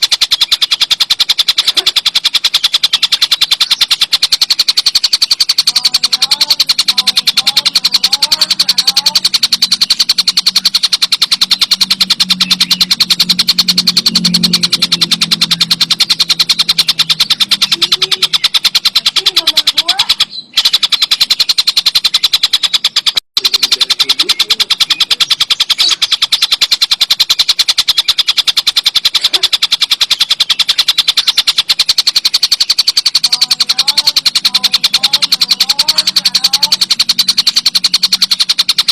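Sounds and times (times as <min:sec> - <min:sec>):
kingfisher rattling trill: 0:00.0 - 0:38.9.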